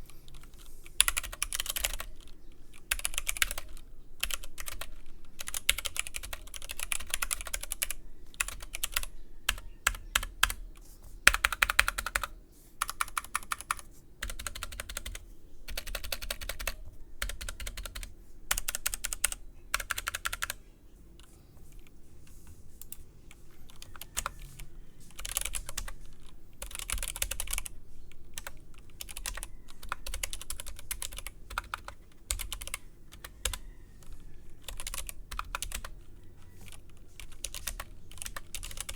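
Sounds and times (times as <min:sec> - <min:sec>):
mechanical keyboard typing: 0:00.2 - 0:20.6, 0:22.8 - 0:38.9.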